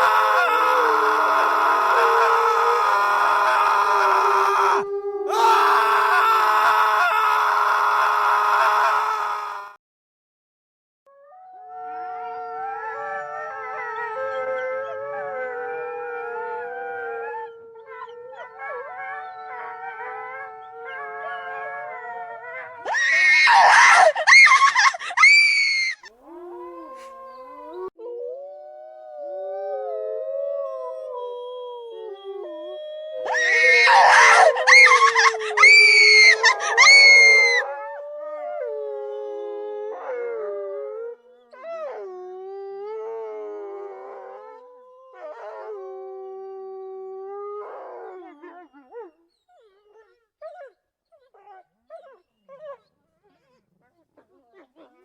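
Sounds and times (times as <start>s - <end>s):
dogs howling: 0.0s - 9.8s, 11.4s - 50.7s.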